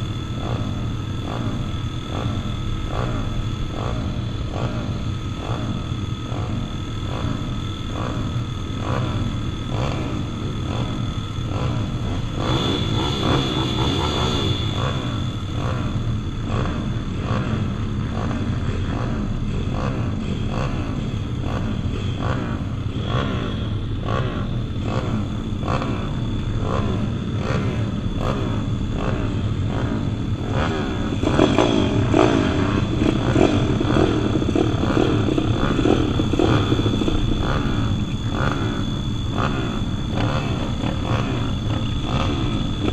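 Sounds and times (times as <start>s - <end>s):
pit bike engines revving: 0.0s - 42.9s.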